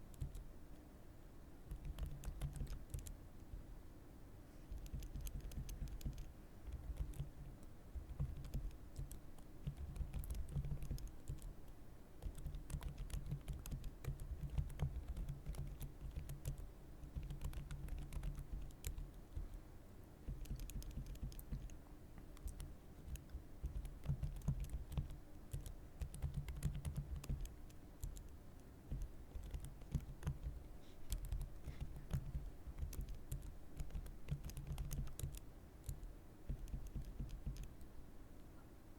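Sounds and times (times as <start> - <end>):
typing on computer keyboard: 0.1 - 0.5, 1.7 - 3.2, 4.7 - 19.6, 20.3 - 37.9.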